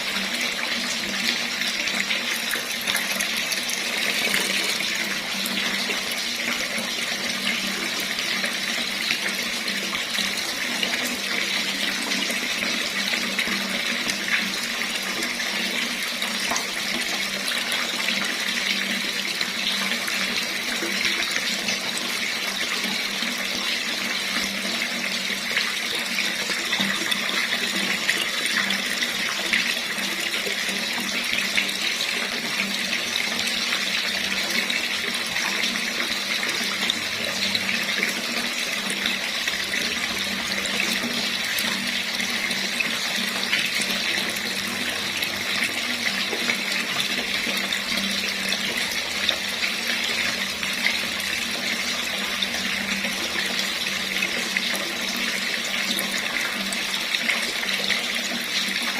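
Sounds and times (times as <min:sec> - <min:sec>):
tap water splashing into sink: 0:00.0 - 0:58.9.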